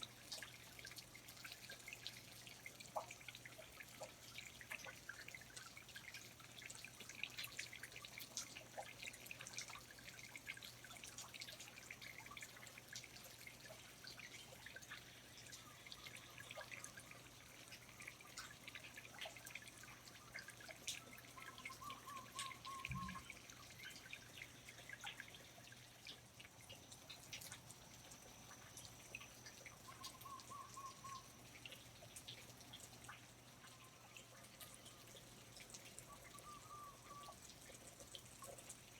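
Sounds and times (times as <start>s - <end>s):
water dripping: 0.0s - 38.9s.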